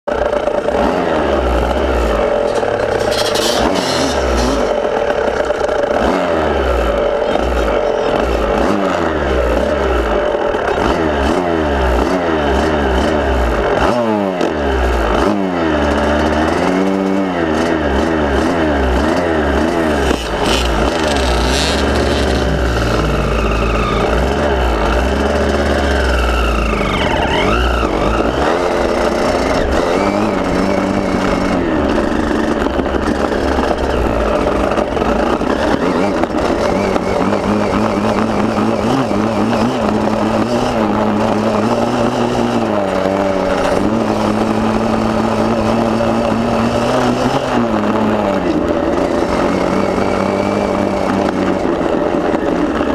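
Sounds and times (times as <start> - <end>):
motocross bike engine revving: 0.1 - 52.9.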